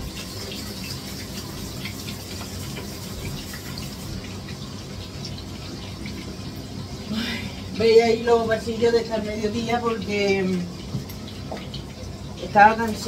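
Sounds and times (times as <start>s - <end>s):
tap water running: 0.0s - 13.0s.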